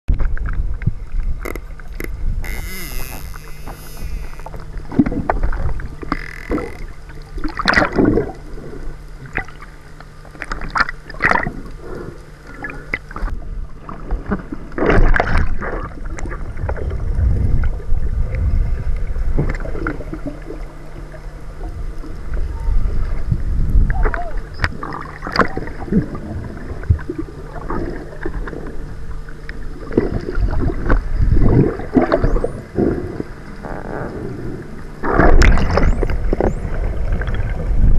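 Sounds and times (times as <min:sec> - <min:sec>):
low underwater rumble: 0:00.1 - 0:37.9
underwater rushing and bubbling: 0:00.1 - 0:37.9
faint low hum: 0:00.2 - 0:37.9.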